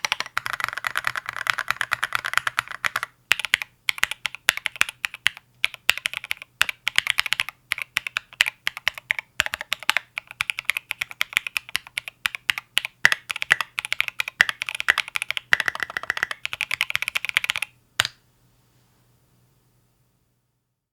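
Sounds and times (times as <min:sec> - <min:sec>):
fast typing on mechanical keyboard: 0:00.0 - 0:17.7.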